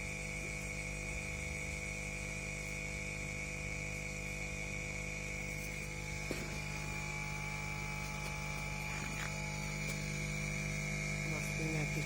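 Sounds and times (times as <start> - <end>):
electrical hum and buzz: 0.0 - 12.0
high whine: 0.0 - 12.0.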